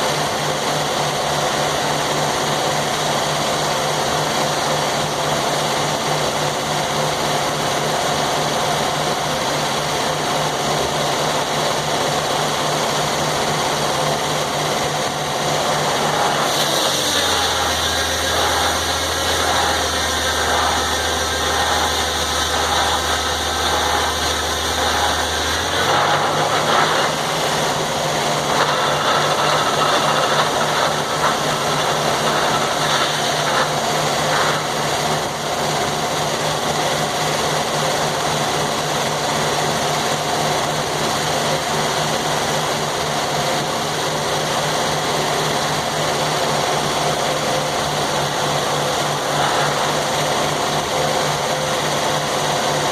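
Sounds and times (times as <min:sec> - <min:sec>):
mill mechanical noise: 0:00.0 - 0:52.9
sawmill engine running: 0:00.0 - 0:52.9.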